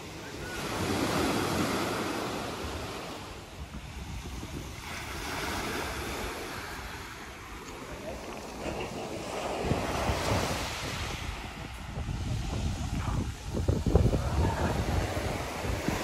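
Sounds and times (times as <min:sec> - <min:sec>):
waves washing onto shore: 0:00.0 - 0:16.0.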